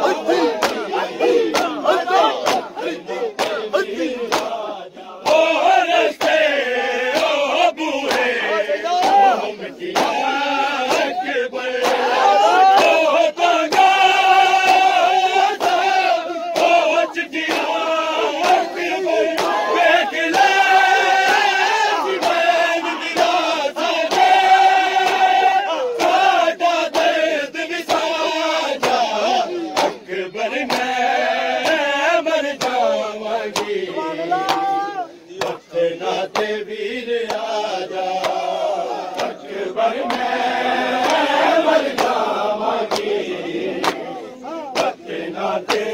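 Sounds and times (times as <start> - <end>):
hands slapping chests: 0.0 - 36.6, 37.2 - 45.9
crowd of men chanting: 0.0 - 45.9.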